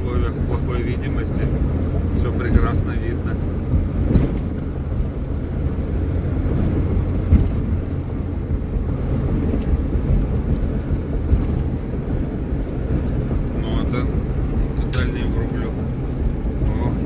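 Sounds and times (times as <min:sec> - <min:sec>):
low rumble of engine and road: 0:00.0 - 0:17.0
dull knocks: 0:01.4 - 0:15.2.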